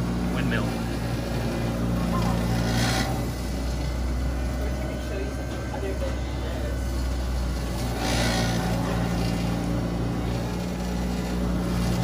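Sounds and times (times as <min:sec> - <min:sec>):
blending machine motor hum: 0:00.0 - 0:12.0.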